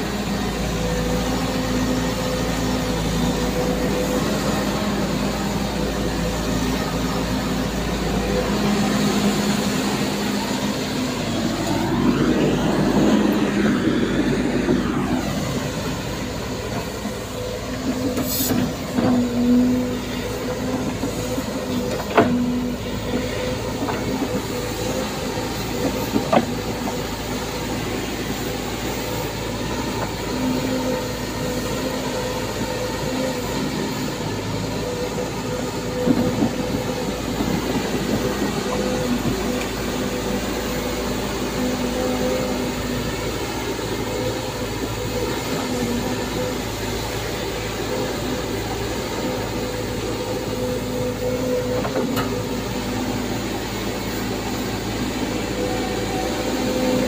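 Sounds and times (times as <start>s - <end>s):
diesel engine drone: 0.0s - 57.0s
hydraulic whine: 0.0s - 57.0s
steel tracks moving: 2.8s - 57.0s.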